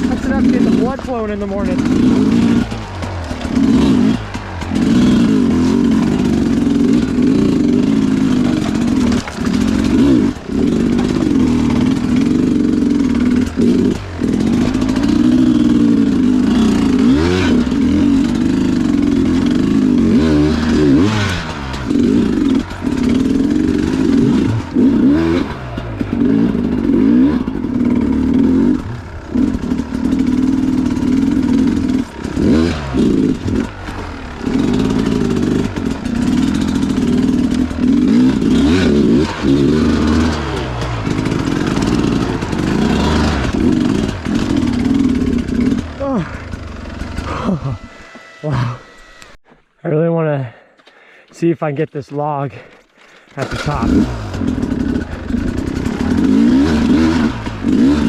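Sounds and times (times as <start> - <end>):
bike clattering over terrain: 0.0 - 49.0
dirt bike engine revving: 0.0 - 49.5, 53.2 - 58.0.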